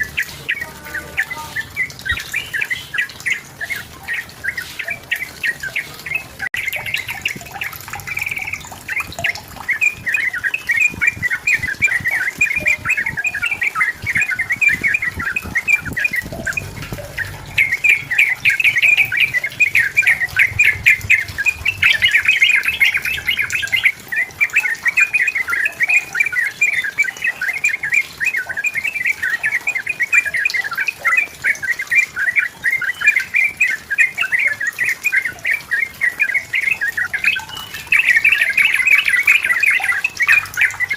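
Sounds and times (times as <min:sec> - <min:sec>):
bird singing chattering notes: 0:00.0 - 0:40.9.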